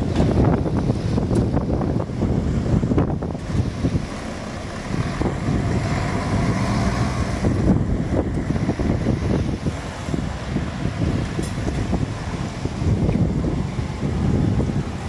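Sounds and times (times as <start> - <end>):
road vehicle running: 0.0 - 15.0
wind rumbling on microphone: 0.0 - 15.0.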